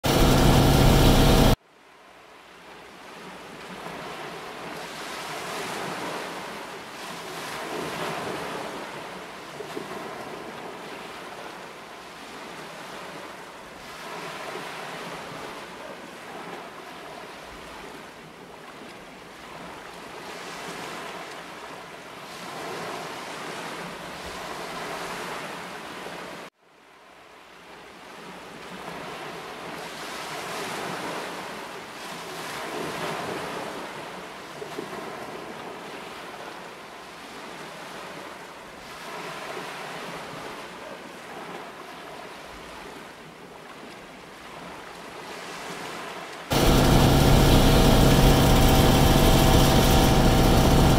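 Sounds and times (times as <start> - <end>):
water splashing along boat hull: 0.0 - 1.6, 3.5 - 26.4, 28.1 - 50.9.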